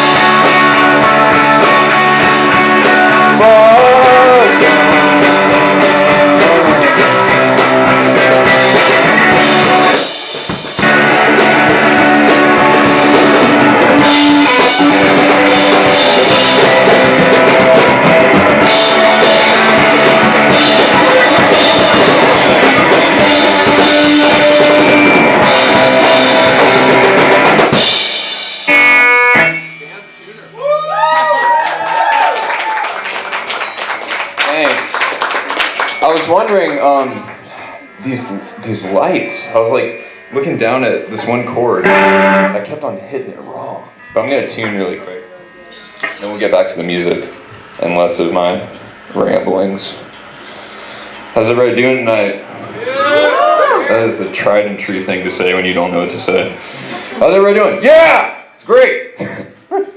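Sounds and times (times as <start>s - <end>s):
electric guitar: 0.0s - 58.6s
drum kit: 0.0s - 59.7s.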